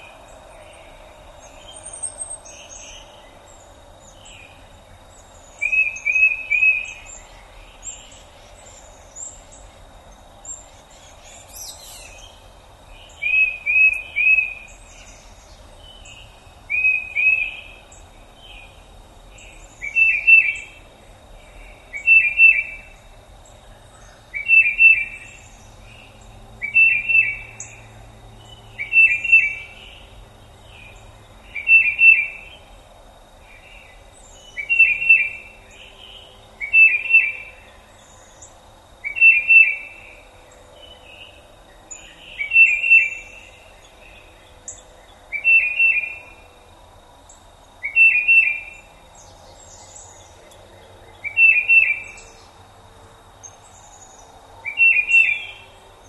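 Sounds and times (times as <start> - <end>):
outdoor background hiss: 0.0 - 56.0
songbird singing: 0.0 - 56.0.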